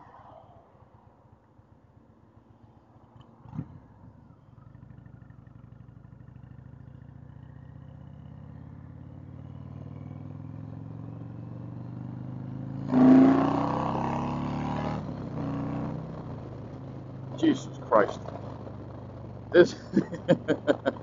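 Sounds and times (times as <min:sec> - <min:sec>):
motorcycle engine accelerating: 0:03.4 - 0:21.0.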